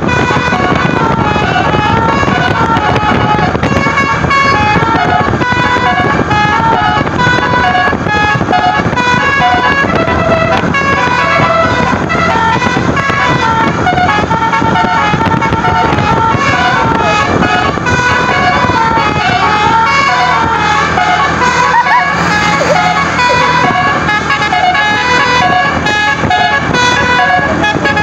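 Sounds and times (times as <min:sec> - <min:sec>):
musical air horn melody: 0:00.0 - 0:28.0
vehicle noise: 0:00.0 - 0:28.0.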